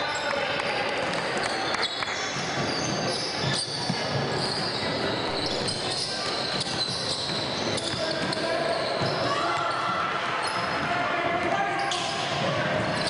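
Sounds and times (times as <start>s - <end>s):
echoing hubbub of voices: 0.0s - 13.0s.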